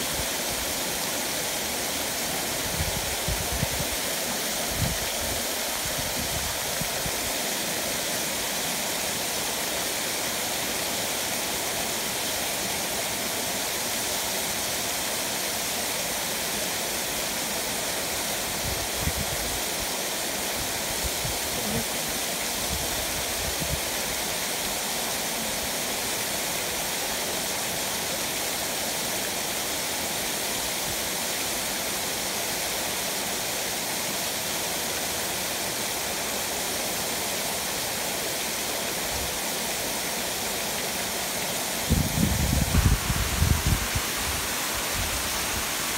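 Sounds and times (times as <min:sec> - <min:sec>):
waterfall splashing onto rocks: 0:00.0 - 0:45.9.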